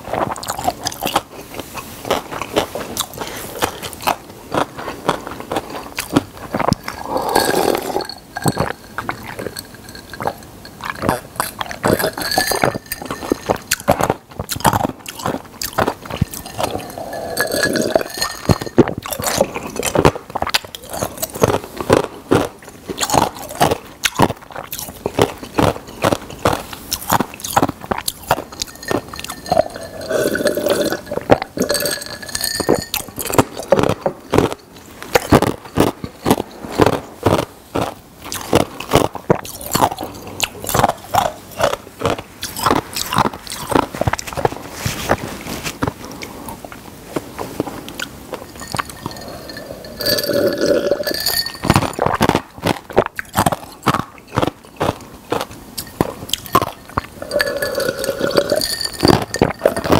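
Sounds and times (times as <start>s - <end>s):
gulping a drink: 0.0s - 1.3s, 2.2s - 44.5s, 47.9s - 59.9s
crunching food in mouth: 0.0s - 59.9s
wet chewing and smacking: 0.0s - 59.9s.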